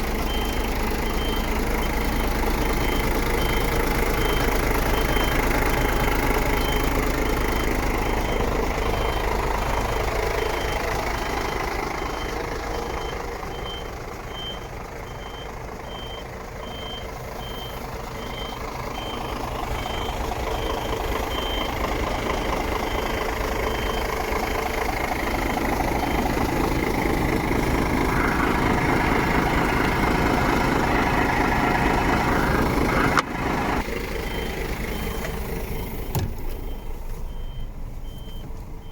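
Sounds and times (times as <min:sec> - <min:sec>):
diesel truck engine running: 0:00.0 - 0:38.9
reversing alarm beeps: 0:00.2 - 0:27.0, 0:34.2 - 0:38.9.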